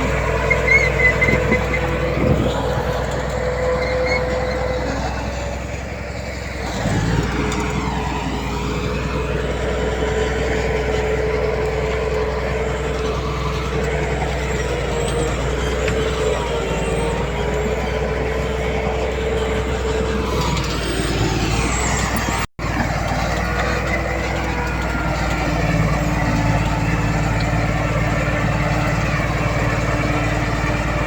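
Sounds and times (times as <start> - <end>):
diesel machinery engine drone: 0.0 - 31.0.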